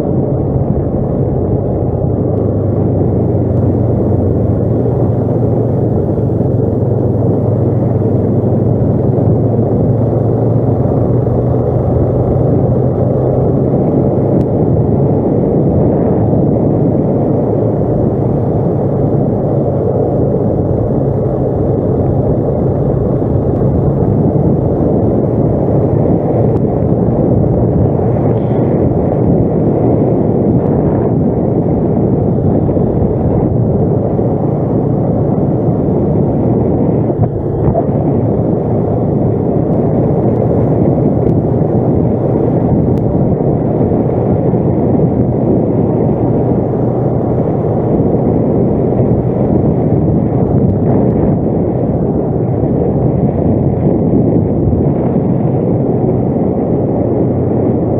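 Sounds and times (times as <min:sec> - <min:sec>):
atv engine running: 0:00.0 - 0:57.9.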